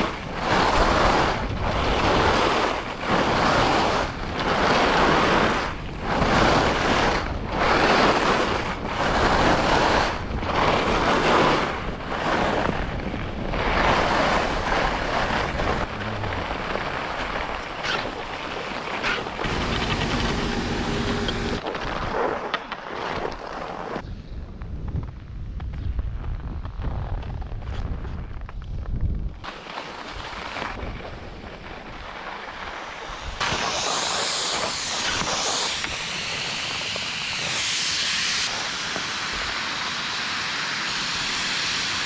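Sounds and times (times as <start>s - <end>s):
wind on microphone: 0.0s - 22.2s, 24.0s - 29.5s, 30.1s - 39.9s
ski edges scraping snow: 0.0s - 24.0s, 29.5s - 42.0s.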